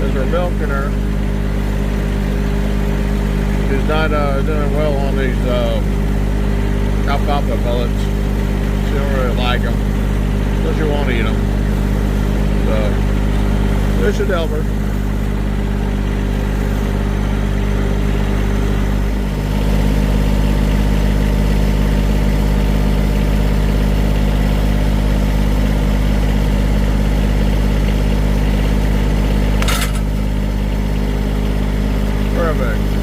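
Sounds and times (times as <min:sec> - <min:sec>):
motor humming: 0:00.0 - 0:33.0.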